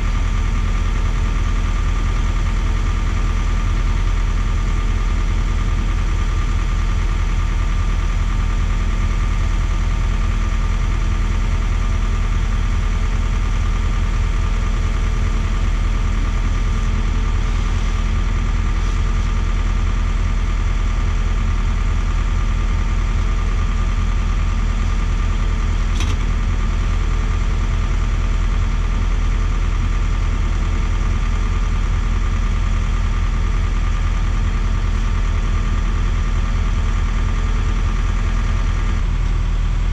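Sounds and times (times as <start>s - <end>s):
engines idling: 0.0s - 39.9s.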